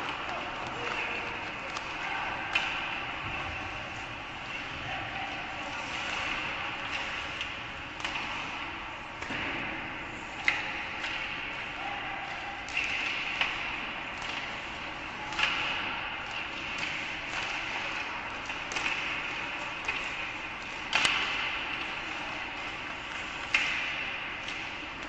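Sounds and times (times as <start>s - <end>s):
hockey sticks hitting puck: 0.0s - 25.0s.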